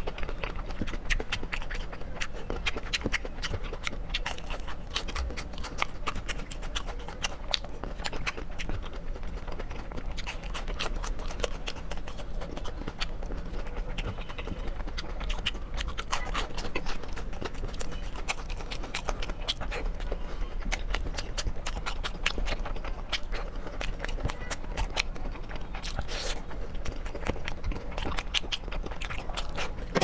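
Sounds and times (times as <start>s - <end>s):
chewing and lip-smacking: 0.0s - 30.0s.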